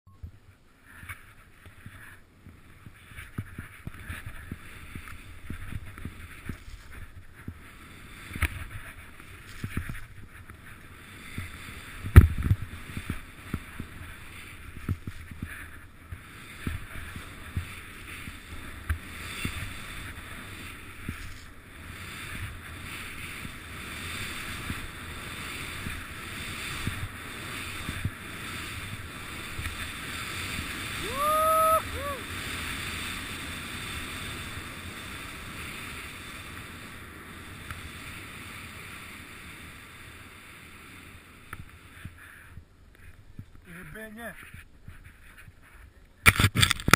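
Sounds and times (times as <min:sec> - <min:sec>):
skis swishing through snow: 0:00.7 - 0:46.7.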